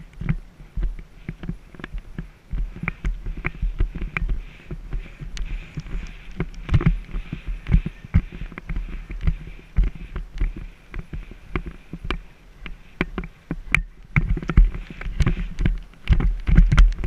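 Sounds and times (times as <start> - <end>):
horse hoofbeats on grass: 0.0 - 17.0
sharp clicks and knocks: 0.1 - 17.0.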